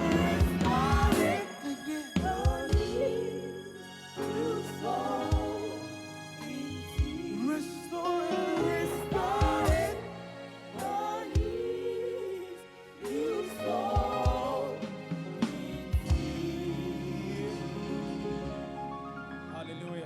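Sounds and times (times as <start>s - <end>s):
person singing gospel: 0.0s - 18.6s
held musical accompaniment: 0.0s - 20.0s.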